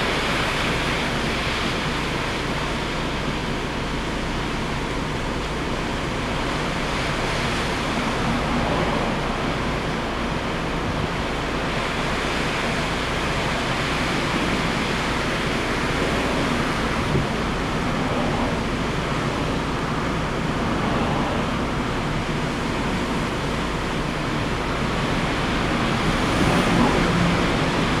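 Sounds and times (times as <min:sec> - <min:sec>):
sea surf: 0:00.0 - 0:28.0.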